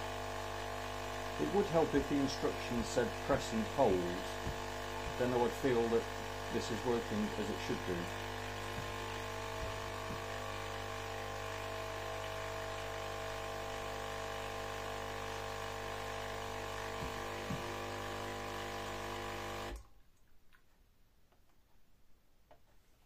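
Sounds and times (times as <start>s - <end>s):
coffee machine pump buzzing: 0.0s - 19.8s.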